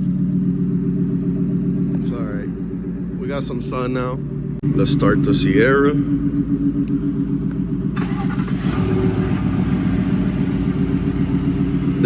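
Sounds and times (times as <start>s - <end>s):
engine humming: 0.0s - 12.0s
pickup engine starting and idling: 0.0s - 12.0s.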